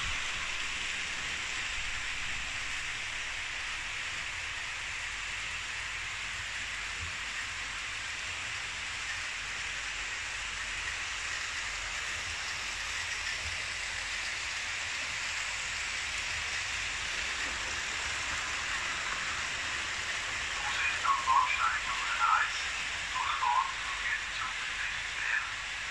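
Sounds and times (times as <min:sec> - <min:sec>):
model trains running on track: 0:00.0 - 0:25.9.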